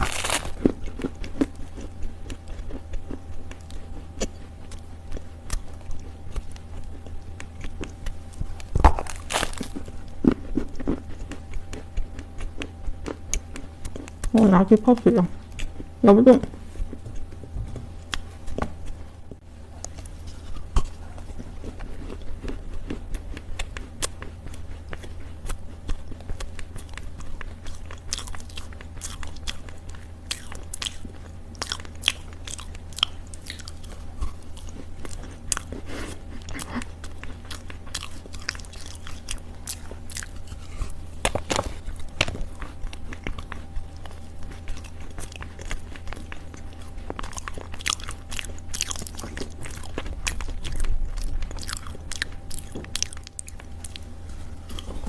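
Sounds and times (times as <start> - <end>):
chewing crunchy clay: 0.0 - 55.0
steady low hum: 0.0 - 55.0.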